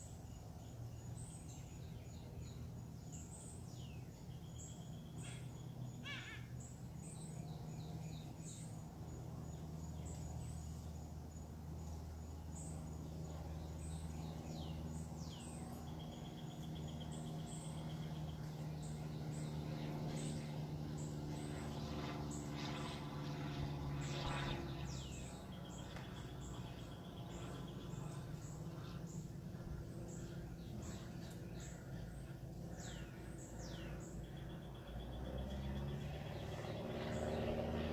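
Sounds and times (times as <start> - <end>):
steady low hum: 0.0 - 37.9
wild birds chirping and singing: 0.0 - 37.9.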